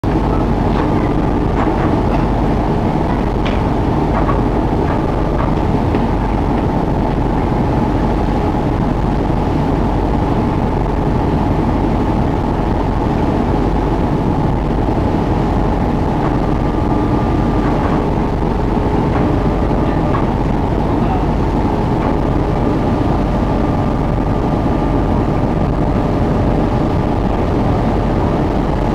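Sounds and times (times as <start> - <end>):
boat engine running: 0.0 - 28.9
faint steady whine: 0.0 - 28.9.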